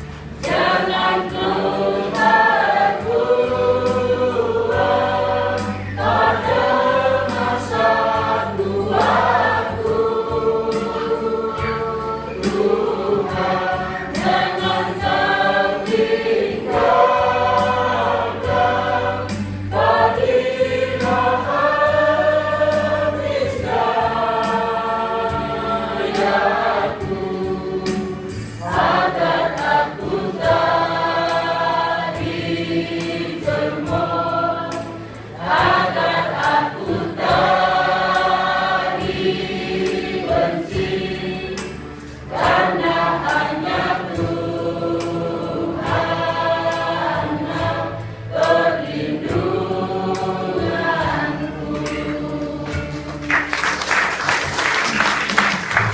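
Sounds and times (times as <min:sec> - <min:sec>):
choir singing: 0:00.0 - 0:53.2.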